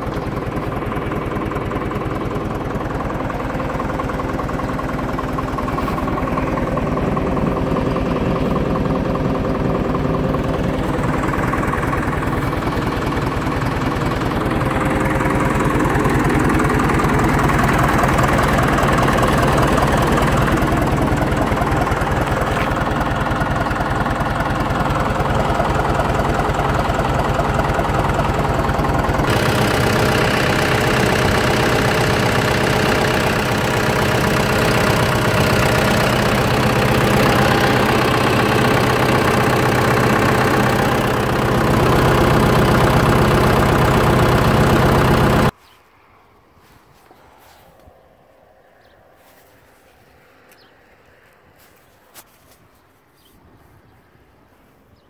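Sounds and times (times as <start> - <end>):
diesel engine idling: 0.0 - 45.6.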